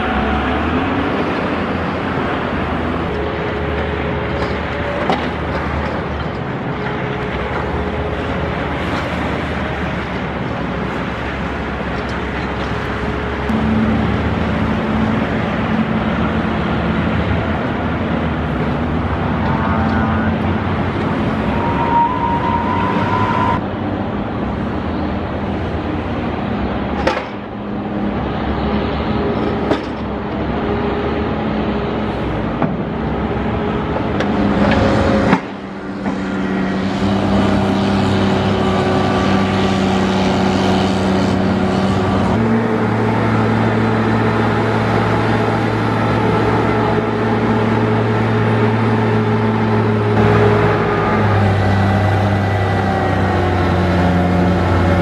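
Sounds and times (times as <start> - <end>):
snow removal machinery engines: 0.0 - 55.0
street traffic: 0.0 - 55.0.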